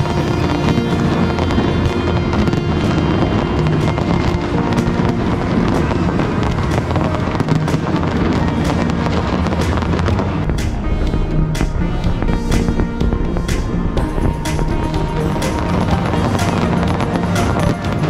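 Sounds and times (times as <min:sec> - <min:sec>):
fireworks bangs and crackles: 0:00.0 - 0:18.0
loud music: 0:00.0 - 0:18.0.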